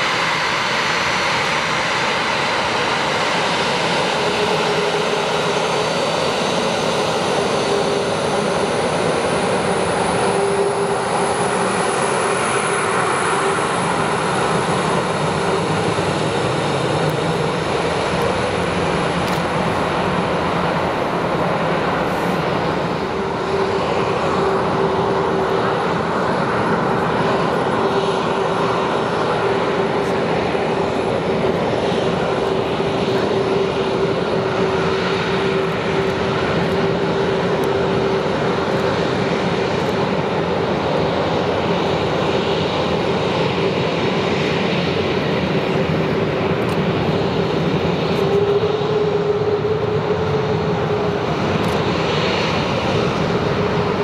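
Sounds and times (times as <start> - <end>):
jet engines running with whine: 0.0 - 54.0.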